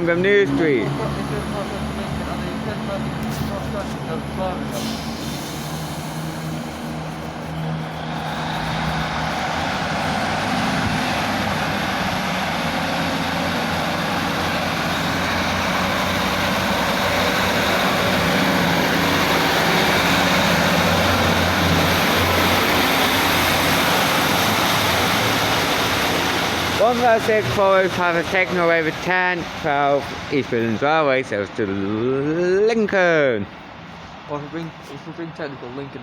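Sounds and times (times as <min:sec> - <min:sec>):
diesel train engines pulling away: 0:00.0 - 0:36.0.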